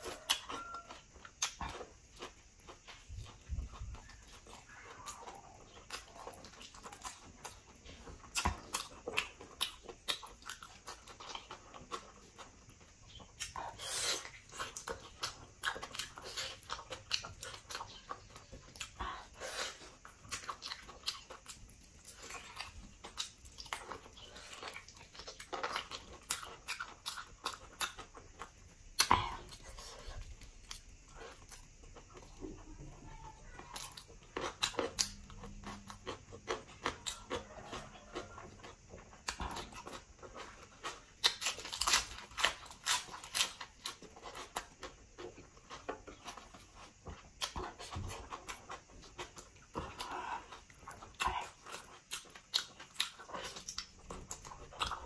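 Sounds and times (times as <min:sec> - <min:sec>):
biting and wet chewing: 0:00.0 - 0:55.0.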